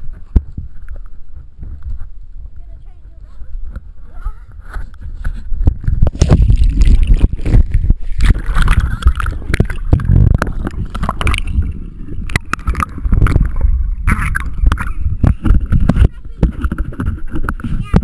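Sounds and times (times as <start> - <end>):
water rumble and handling noise: 0.0 - 18.0
muffled underwater gurgling: 2.4 - 18.0.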